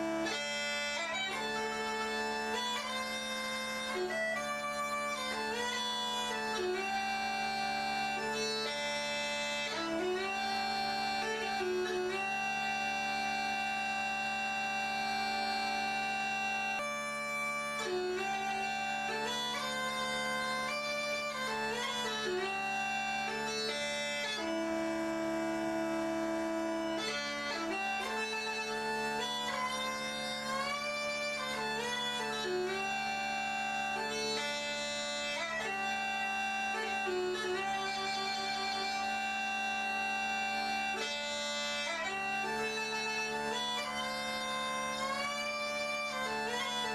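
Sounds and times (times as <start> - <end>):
bagpipe melody over drone: 0.0 - 46.9.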